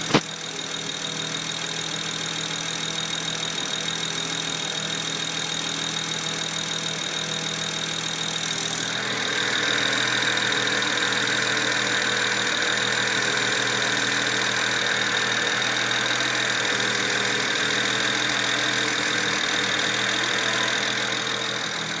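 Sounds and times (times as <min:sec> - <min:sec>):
car engine idling roughly: 0:00.0 - 0:22.0.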